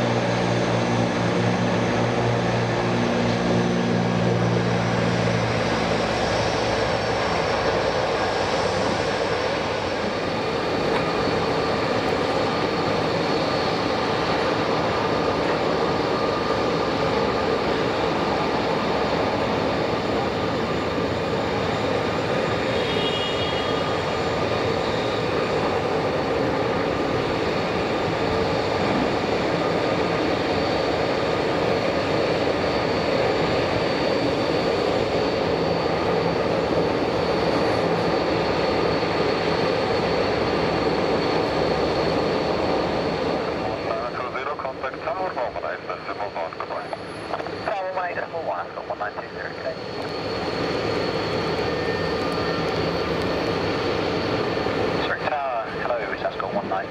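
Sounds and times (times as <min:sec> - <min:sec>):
jet engines taxiing: 0:00.0 - 0:56.9.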